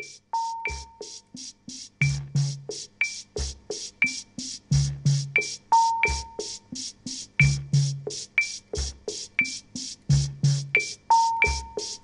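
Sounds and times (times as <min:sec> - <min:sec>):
drum machine rhythm: 0:00.0 - 0:12.0.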